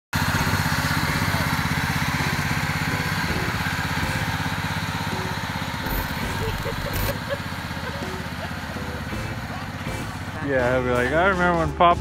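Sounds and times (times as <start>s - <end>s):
lawn tractor engine running: 0.2s - 11.9s.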